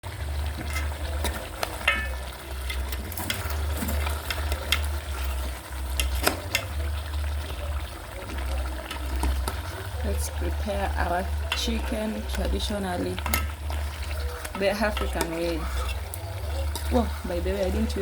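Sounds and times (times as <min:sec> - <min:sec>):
chicken frying in a pot: 0:00.0 - 0:18.0
utensil scraping a pot: 0:00.2 - 0:18.0.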